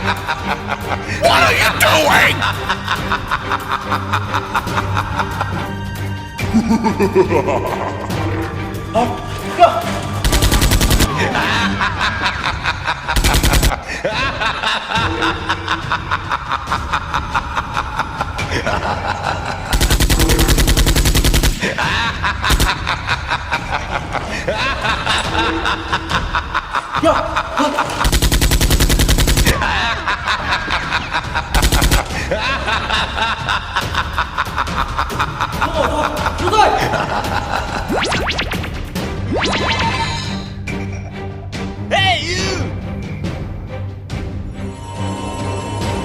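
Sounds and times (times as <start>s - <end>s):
background music: 0.0s - 46.0s.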